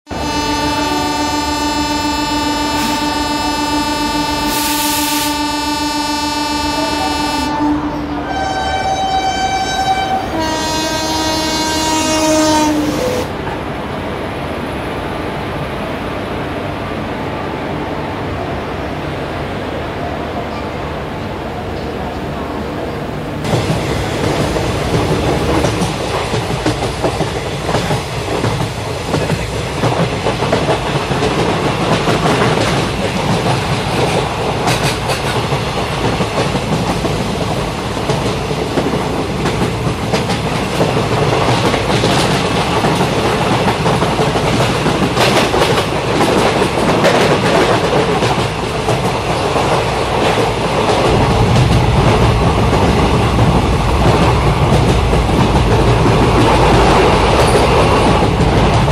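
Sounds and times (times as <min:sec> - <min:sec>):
train coaches rumbling past: 0:00.1 - 0:58.9.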